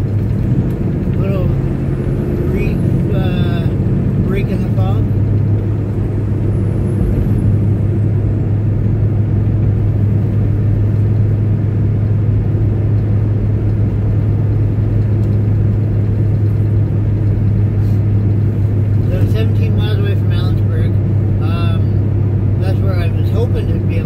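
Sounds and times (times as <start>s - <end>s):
road noise: 0.0s - 24.0s
truck engine drone: 0.0s - 24.0s.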